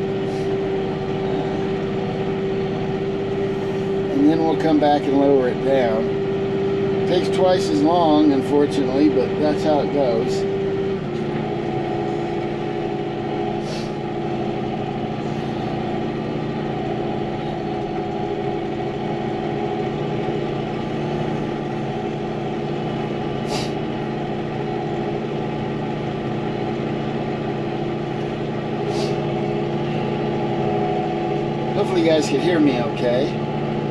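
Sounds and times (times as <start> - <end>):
diesel tractor engine running: 0.0 - 33.9.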